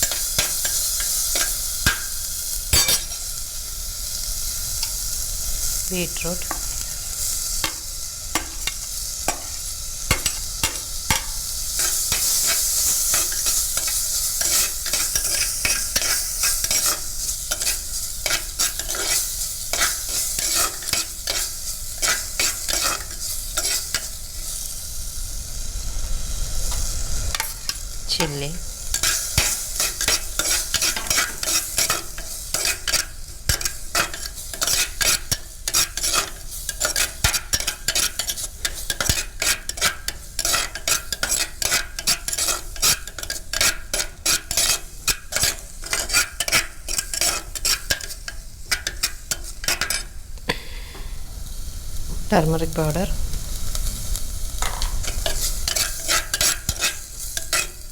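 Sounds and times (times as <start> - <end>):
spoon scraping and tapping pan: 0.0 - 3.4, 4.8 - 5.1, 5.7 - 24.2, 26.7 - 50.2, 54.6 - 57.9
vegetables sizzling in a pan: 0.0 - 57.9.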